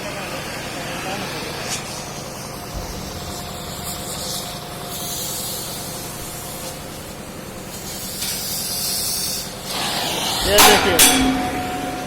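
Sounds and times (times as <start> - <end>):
welding arc hissing: 1.4 - 12.0.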